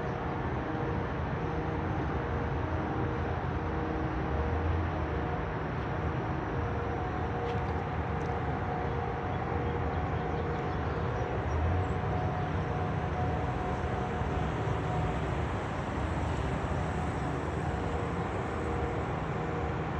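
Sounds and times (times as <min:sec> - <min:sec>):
low mechanical drone: 0:00.0 - 0:19.9.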